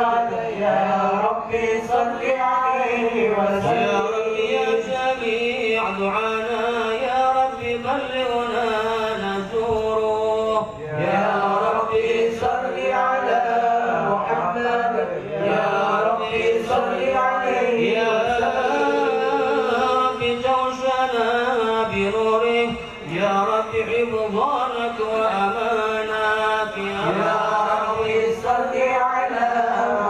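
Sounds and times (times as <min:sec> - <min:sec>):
men chanting through microphones: 0:00.0 - 0:30.0.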